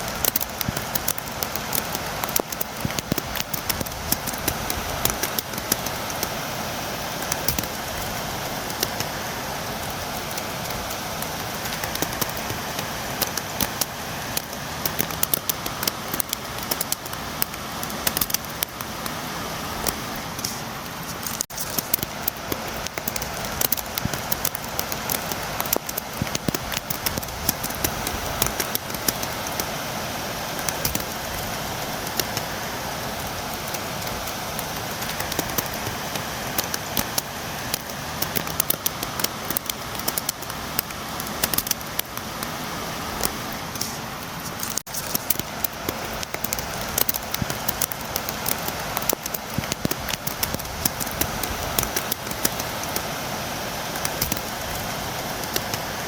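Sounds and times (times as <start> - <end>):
rain tapping on a window: 0.0 - 56.0.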